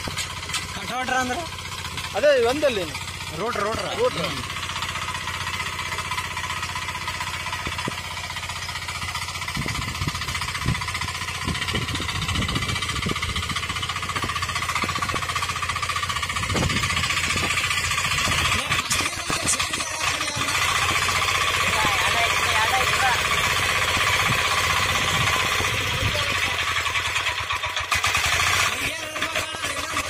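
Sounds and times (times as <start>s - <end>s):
diesel tiller engine knocking: 0.0s - 30.0s.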